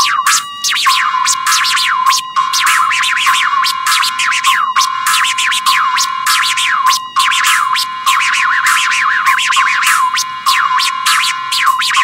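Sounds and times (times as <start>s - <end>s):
toy turntable record scratching: 0.0s - 12.0s.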